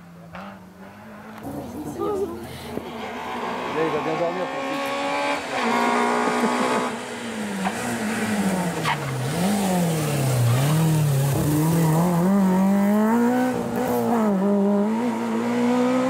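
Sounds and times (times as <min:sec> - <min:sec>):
rally car engine downshifting: 0:00.2 - 0:16.0.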